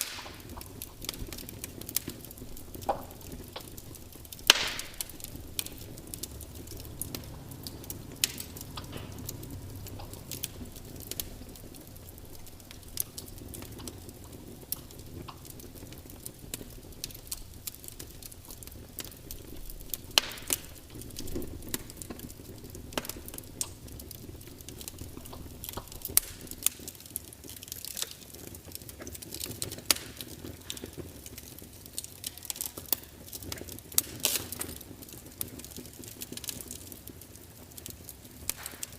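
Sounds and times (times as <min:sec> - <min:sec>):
log fire crackling: 0:00.0 - 0:38.9.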